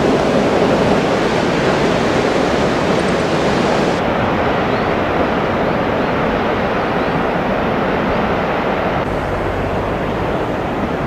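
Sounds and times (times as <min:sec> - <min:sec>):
rough sea surf breaking: 0:00.0 - 0:11.0.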